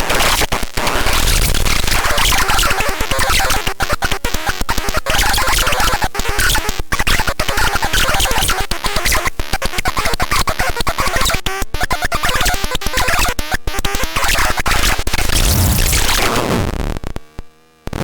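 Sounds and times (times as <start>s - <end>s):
glitched electronic toy noise: 0.1s - 16.5s.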